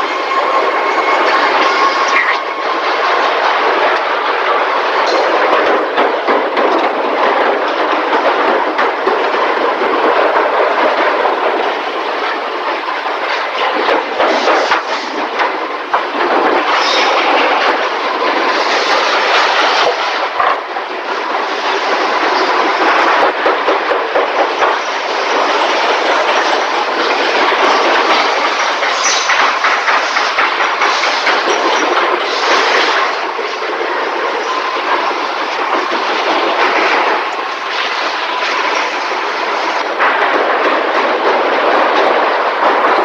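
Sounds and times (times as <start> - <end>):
machinery clatter: 0.0 - 43.0.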